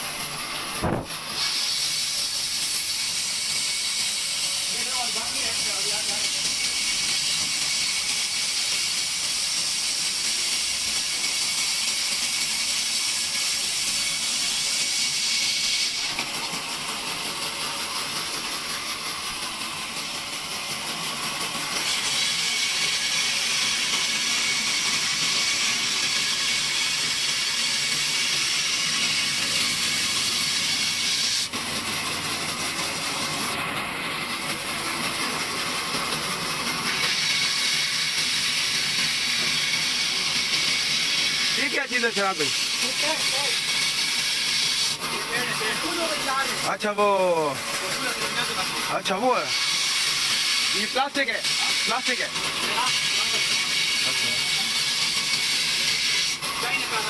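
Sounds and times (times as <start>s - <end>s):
band saw cutting: 0.0s - 57.0s.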